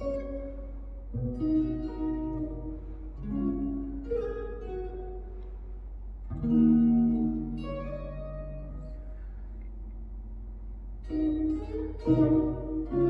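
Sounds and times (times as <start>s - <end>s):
electric guitar chords ringing: 0.0s - 13.0s.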